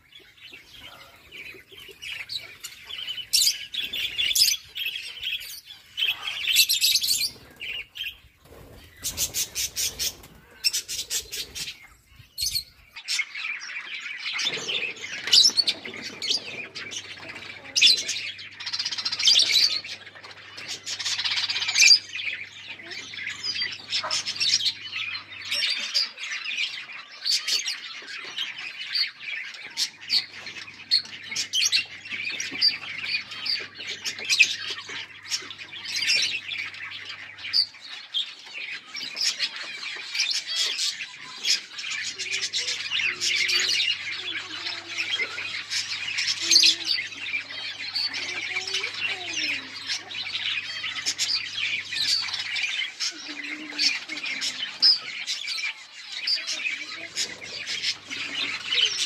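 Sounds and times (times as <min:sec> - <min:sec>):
lovebirds chattering and squawking: 0:00.0 - 0:59.0.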